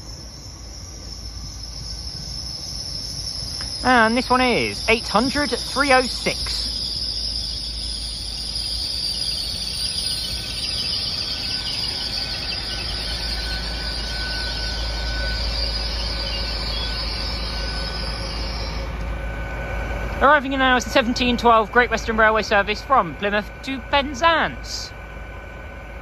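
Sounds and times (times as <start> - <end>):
constant high hiss: 0.0 - 26.0
diesel train rumbling: 0.0 - 26.0.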